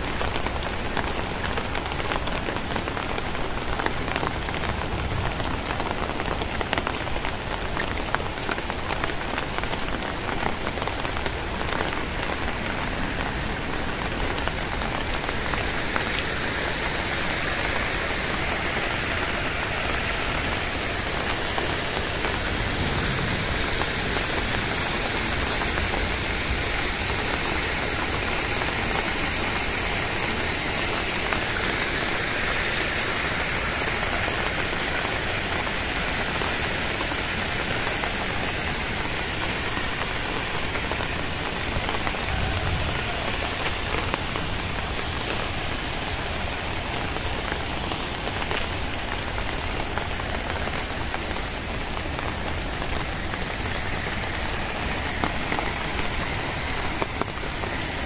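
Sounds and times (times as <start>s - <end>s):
heavy rain hiss: 0.0s - 58.0s
raindrops spattering on surfaces: 0.0s - 58.0s.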